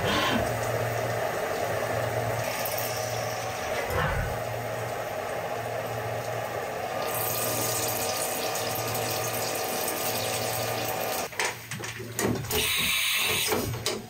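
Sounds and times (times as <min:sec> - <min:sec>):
milling machine hum: 0:00.0 - 0:11.3.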